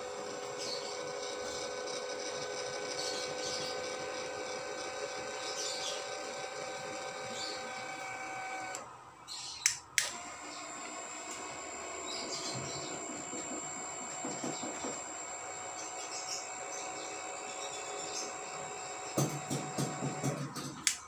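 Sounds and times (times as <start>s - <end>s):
linear actuator motor whining: 0.0s - 21.0s.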